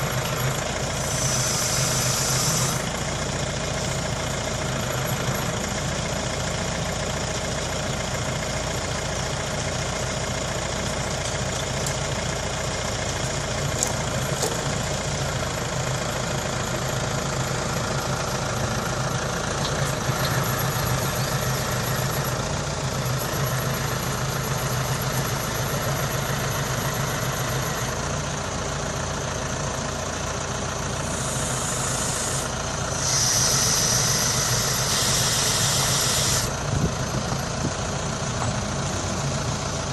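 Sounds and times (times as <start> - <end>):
log loader engine running: 0.0 - 39.9.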